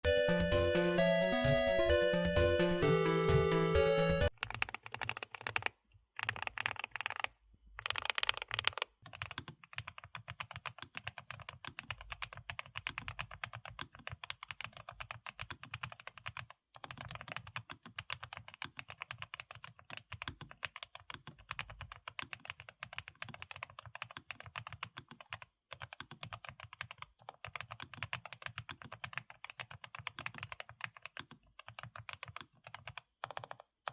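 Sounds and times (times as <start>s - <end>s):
mechanical keyboard typing: 4.3s - 33.9s.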